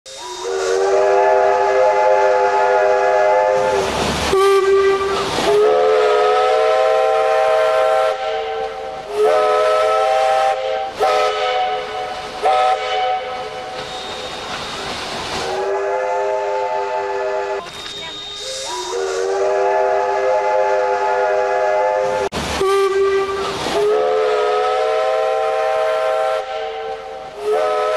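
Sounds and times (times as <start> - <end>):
hissing steam: 0.1 - 27.9
steam whistle blasts: 0.1 - 27.9.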